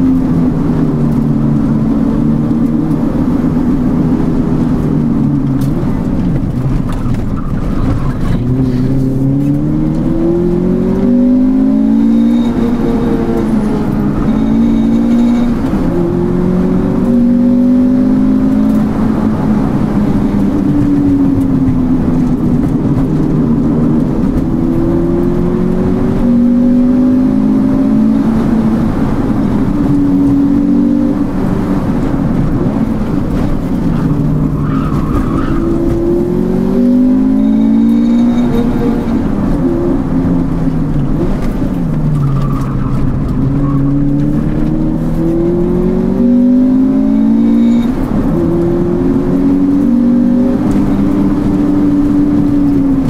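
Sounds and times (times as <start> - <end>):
car engine and exhaust revving: 0.0 - 53.0.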